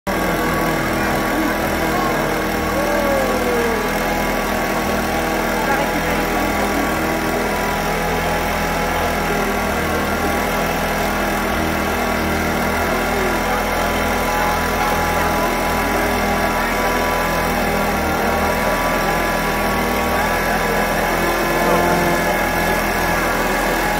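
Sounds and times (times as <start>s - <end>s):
engine idling: 0.1s - 23.9s.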